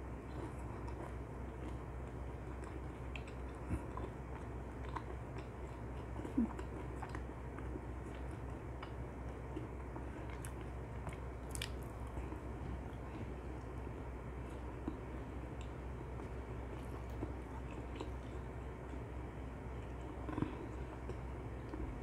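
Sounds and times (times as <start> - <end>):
chewing and biting fried chicken: 0.0 - 22.0
steady low hum: 0.0 - 22.0.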